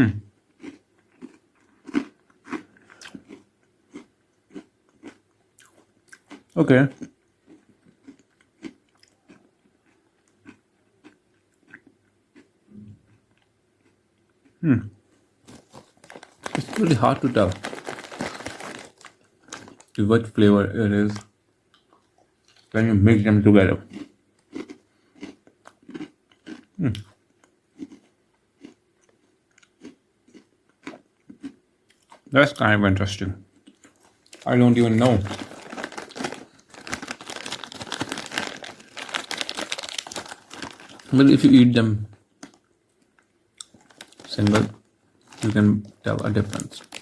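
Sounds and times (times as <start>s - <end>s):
cereal bites being chewed: 0.5s - 12.5s, 15.5s - 20.0s, 23.8s - 32.3s, 33.5s - 41.6s, 42.4s - 47.0s.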